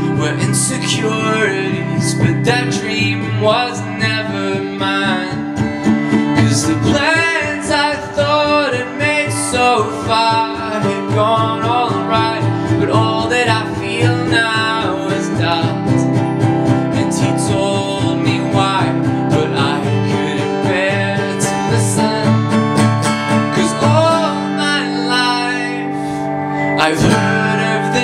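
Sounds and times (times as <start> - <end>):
acoustic guitar strumming: 0.0 - 28.0
man singing: 0.0 - 28.0.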